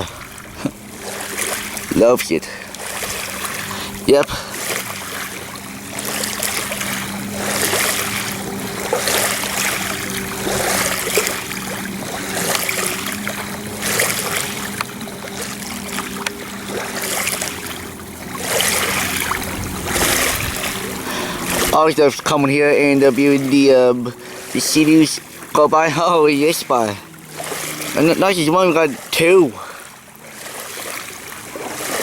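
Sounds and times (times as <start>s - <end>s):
small waves on rocky beach: 0.0s - 32.0s
steady low hum: 0.0s - 32.0s.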